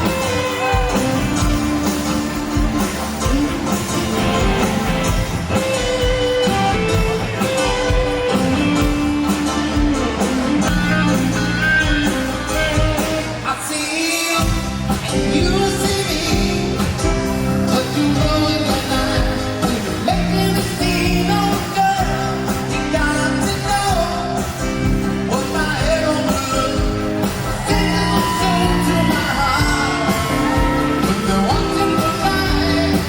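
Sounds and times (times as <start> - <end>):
live band playing soft rock: 0.0 - 33.0
person singing lead vocals: 0.0 - 33.0.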